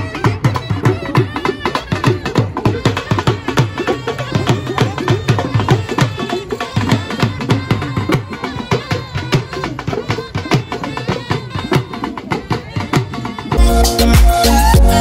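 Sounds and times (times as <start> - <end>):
barrel drum beaten fast: 0.0 - 15.0
wind instrument melody: 0.0 - 15.0.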